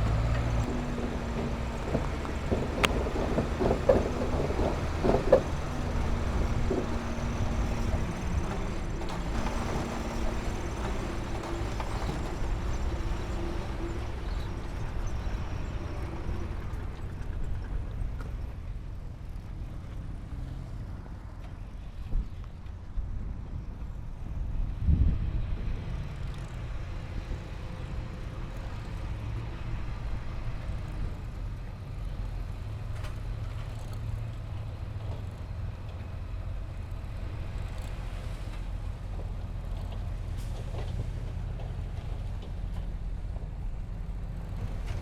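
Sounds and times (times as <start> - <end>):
heavy diesel machinery running: 0.0 - 45.0.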